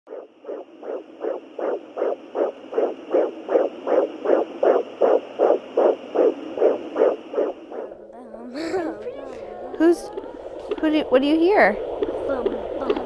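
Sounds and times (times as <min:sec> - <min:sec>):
fetal heartbeat whooshing pulse: 0:00.1 - 0:13.0.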